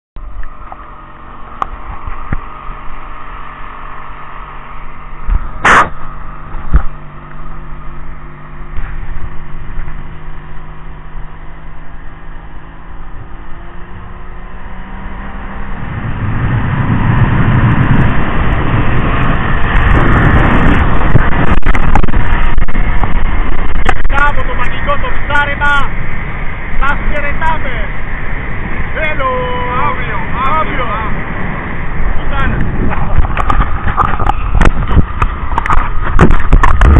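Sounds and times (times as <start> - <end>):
motorboat engine: 0.2 - 36.9
wind on microphone: 0.2 - 36.9.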